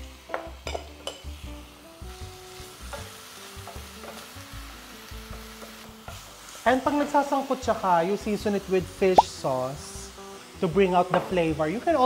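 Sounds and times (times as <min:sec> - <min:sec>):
garlic and onion sizzling in oil: 0:00.0 - 0:12.0.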